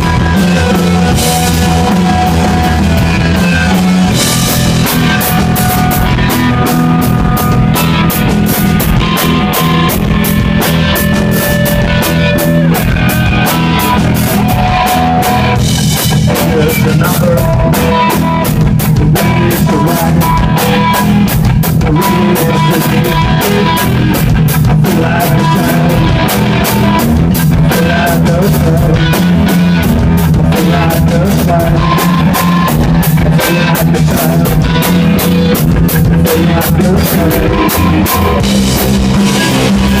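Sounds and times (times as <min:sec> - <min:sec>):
rock band playing live: 0:00.0 - 0:40.0.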